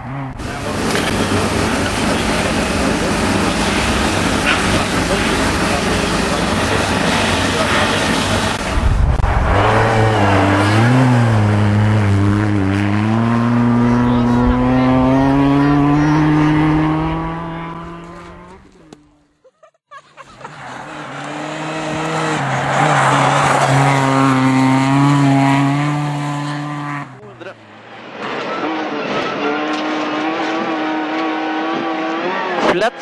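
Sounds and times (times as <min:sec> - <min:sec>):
rally car engine at high revs: 0:00.0 - 0:18.9, 0:20.4 - 0:27.4, 0:28.2 - 0:33.0.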